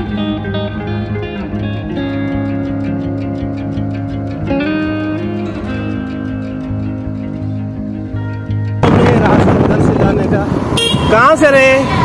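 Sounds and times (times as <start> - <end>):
guitar music: 0.0 - 11.0
low bass line: 0.0 - 11.2.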